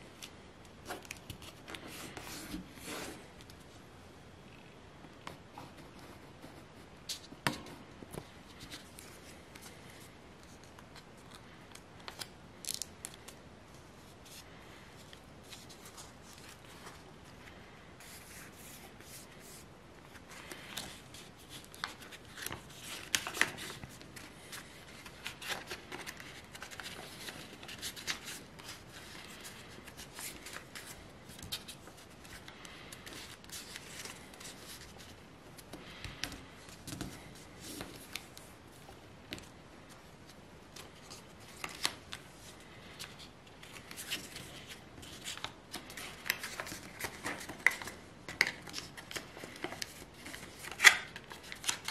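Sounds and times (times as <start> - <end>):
paper rustling and crackling: 8.1 - 51.9.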